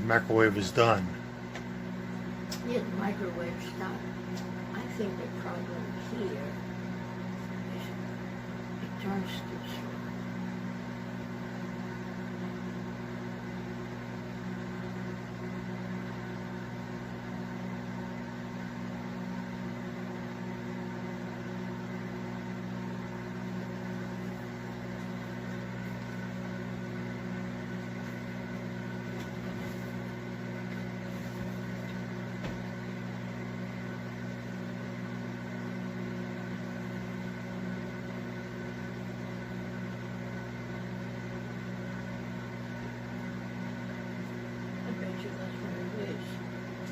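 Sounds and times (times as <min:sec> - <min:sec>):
microwave oven humming: 0:00.0 - 0:46.9.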